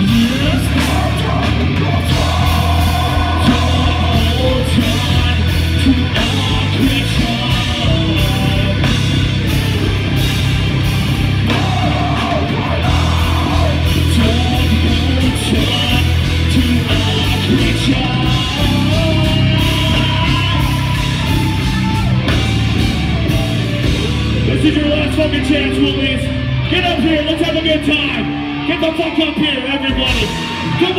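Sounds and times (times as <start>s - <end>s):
heavy metal band playing: 0.0s - 30.9s
vocalist singing and yelling: 0.0s - 30.9s.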